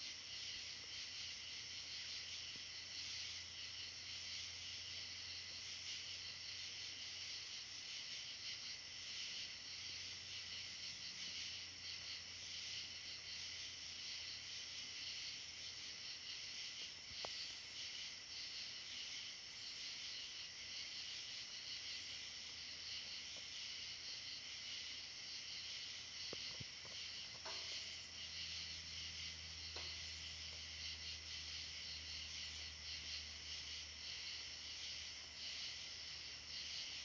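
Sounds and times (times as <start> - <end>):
night insects chorus: 0.0 - 37.0.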